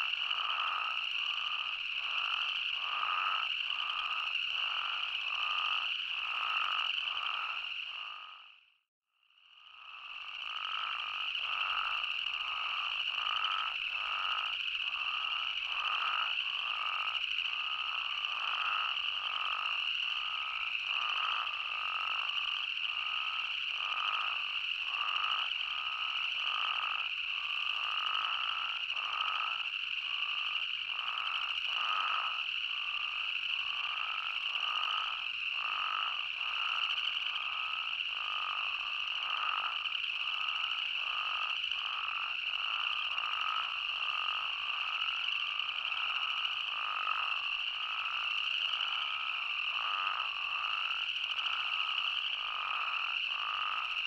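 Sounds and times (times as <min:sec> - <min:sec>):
toads bleating calls: 0:00.0 - 0:08.5, 0:09.8 - 0:54.0.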